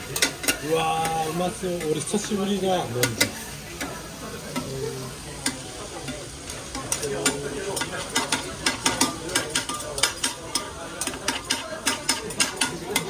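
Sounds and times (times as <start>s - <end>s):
metal spatulas clacking on griddle: 0.0s - 4.7s, 5.4s - 13.0s
food sizzling on griddle: 0.0s - 13.0s.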